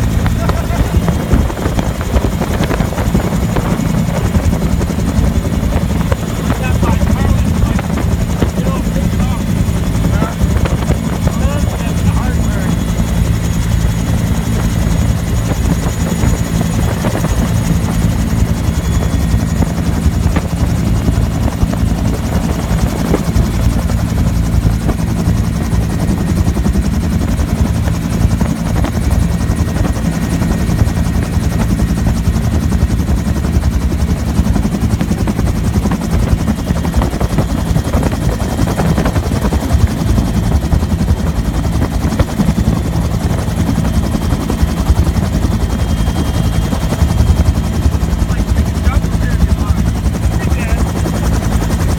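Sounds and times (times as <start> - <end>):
helicopter rotor beating: 0.0 - 51.9
helicopter turbine whine: 0.0 - 51.9.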